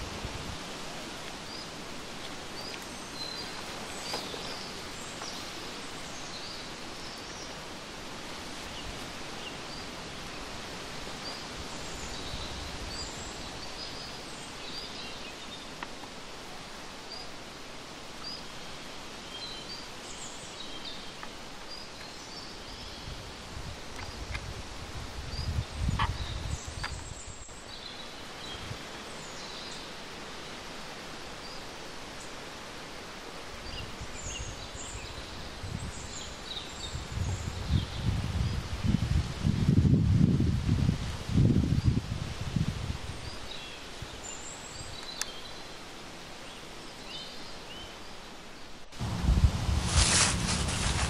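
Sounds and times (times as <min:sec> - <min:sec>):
leaves rustling: 0:00.0 - 0:51.0.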